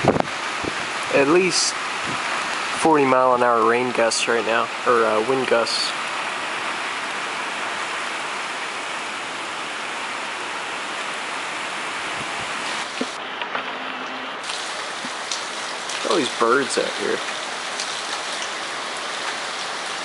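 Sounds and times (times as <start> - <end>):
heavy rain and wind gusts: 0.0 - 13.2, 14.4 - 20.0.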